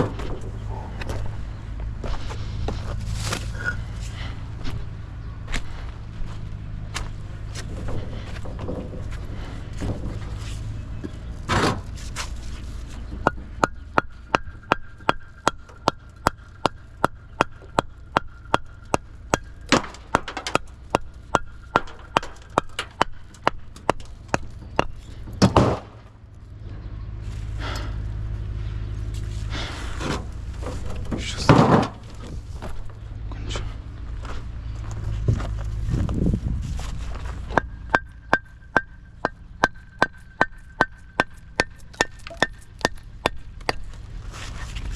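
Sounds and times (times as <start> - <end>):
low machine hum: 0.0 - 44.9.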